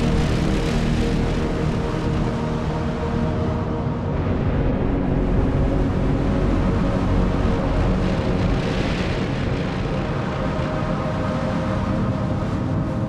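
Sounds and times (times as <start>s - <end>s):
electronic music with low drone: 0.0s - 13.0s.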